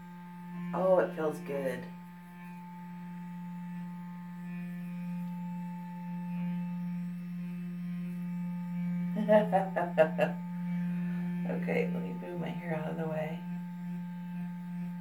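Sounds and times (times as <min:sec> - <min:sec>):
electric facial brush humming: 0:00.0 - 0:15.0.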